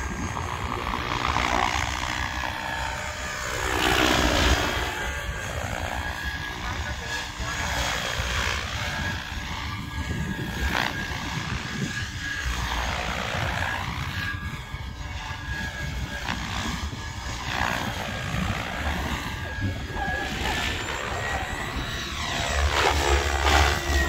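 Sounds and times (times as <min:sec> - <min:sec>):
rc helicopter rotor whine: 0:00.0 - 0:24.0.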